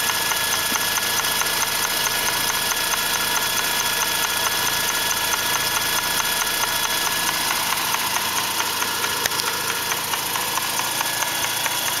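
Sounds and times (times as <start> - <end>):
fast even ticking: 0.0 - 12.0
rotary engine running: 0.0 - 12.0.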